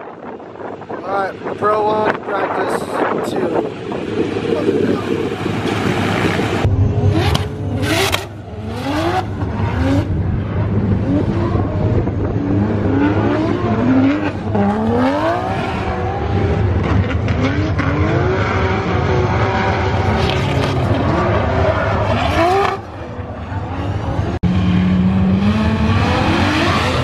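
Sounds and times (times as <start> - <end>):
steady rush of noise: 0.0 - 24.5
car engines revving: 0.0 - 27.0.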